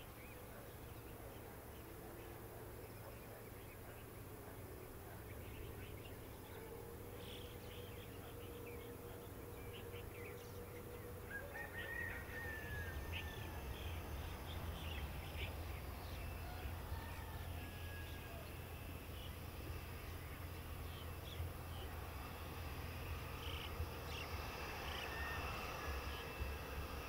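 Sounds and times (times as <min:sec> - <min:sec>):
airliner engines rumbling: 0:00.0 - 0:27.0
birds chirping: 0:00.0 - 0:27.0.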